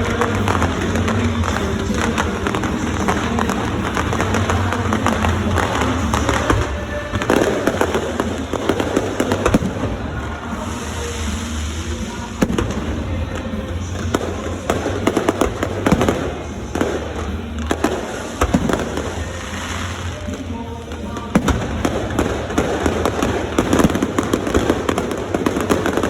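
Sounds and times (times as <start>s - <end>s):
fireworks bangs and crackling: 0.0s - 26.0s
music: 0.0s - 26.0s.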